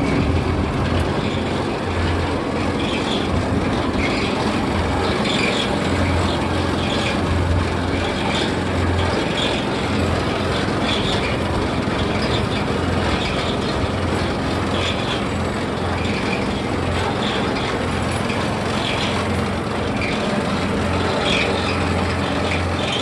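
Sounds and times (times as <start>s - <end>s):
small engine rumbling: 0.0s - 23.0s.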